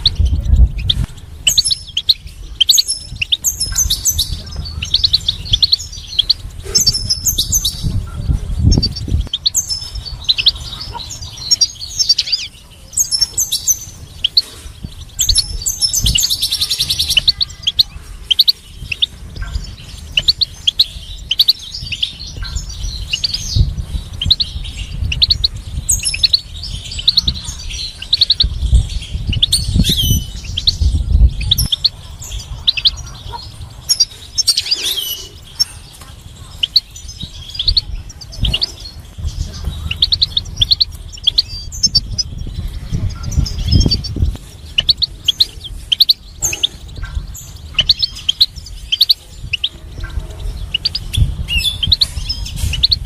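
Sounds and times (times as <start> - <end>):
bird twittering chirps and trills: 0.0 - 53.0.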